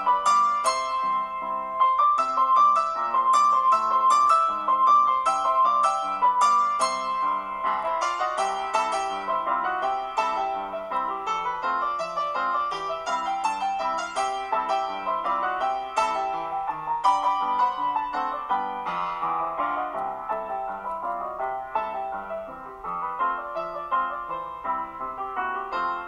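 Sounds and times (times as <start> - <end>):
piano melody: 0.0 - 26.0.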